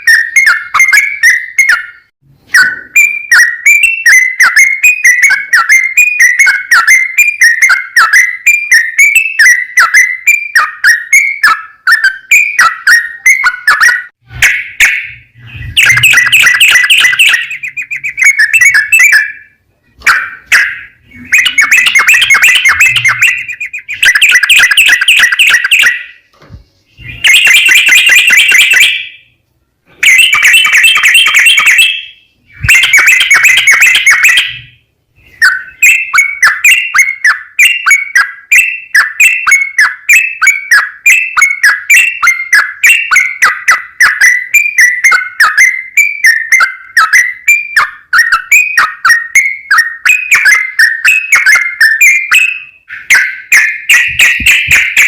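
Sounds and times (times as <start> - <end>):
bulbul song: 0.0 - 55.0.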